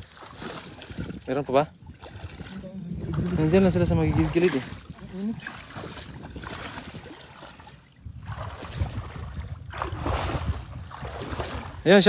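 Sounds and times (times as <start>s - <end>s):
legs sloshing through water: 0.0s - 12.0s
wind rumbling on microphone: 0.0s - 12.0s.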